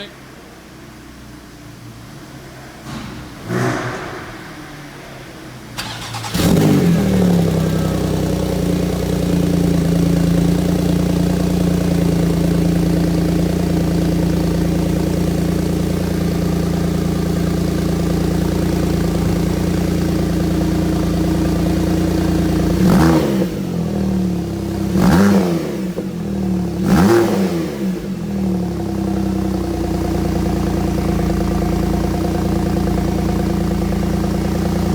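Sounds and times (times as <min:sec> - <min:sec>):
car engine starting and idling: 0:00.0 - 0:34.9
engine throttle blips: 0:02.1 - 0:34.9.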